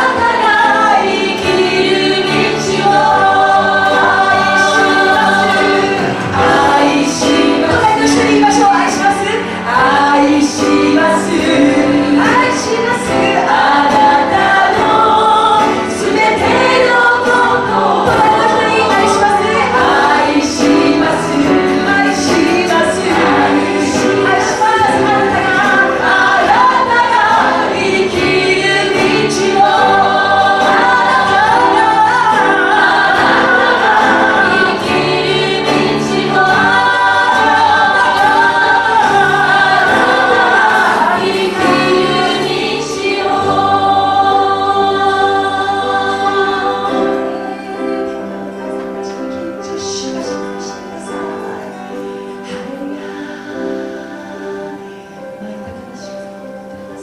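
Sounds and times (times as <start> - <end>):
guitar: 0.0 - 57.0
piano: 0.0 - 57.0
women singing worship song: 0.0 - 57.0.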